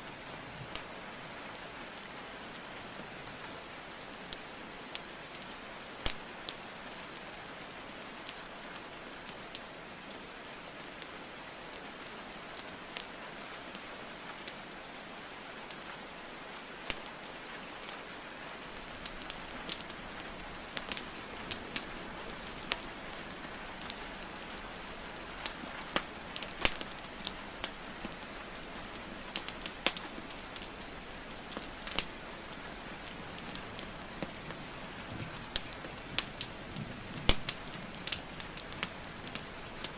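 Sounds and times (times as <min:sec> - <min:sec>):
rain hiss: 0:00.0 - 0:39.9
wood fire crackling: 0:00.1 - 0:39.9.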